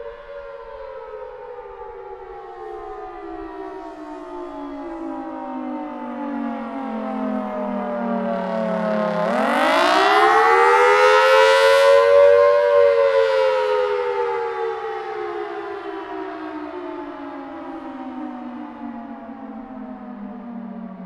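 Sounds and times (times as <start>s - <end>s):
outdoor warning siren: 0.0s - 21.0s.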